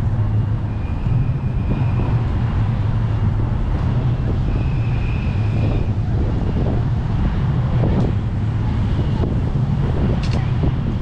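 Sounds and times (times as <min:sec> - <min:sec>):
city traffic rumble: 0:00.0 - 0:11.0
wind noise on microphone: 0:00.0 - 0:11.0.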